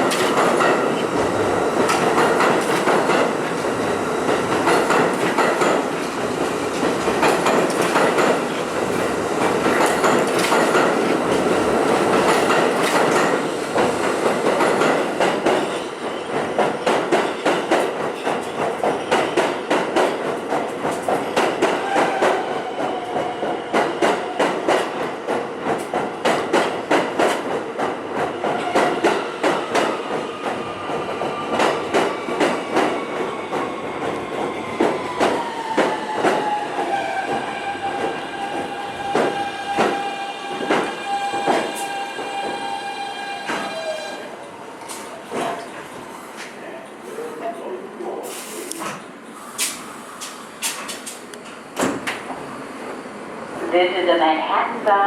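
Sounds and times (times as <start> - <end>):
train wheel rush: 0.0 - 47.2, 48.2 - 54.9.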